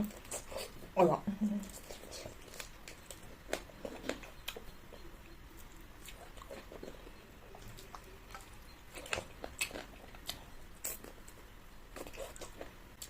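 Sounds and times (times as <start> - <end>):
chewing with clicks and smacks: 1.6 - 13.0.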